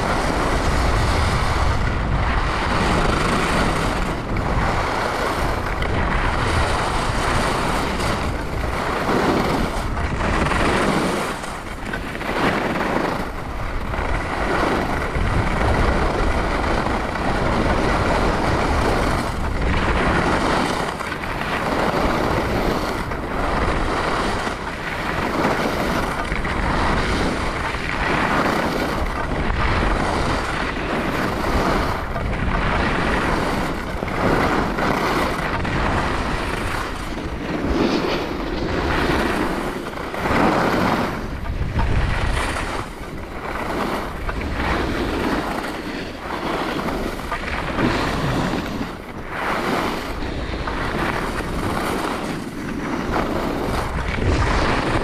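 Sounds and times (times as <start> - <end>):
skis scraping on snow: 0.0 - 55.0
wind buffeting microphone: 0.0 - 55.0.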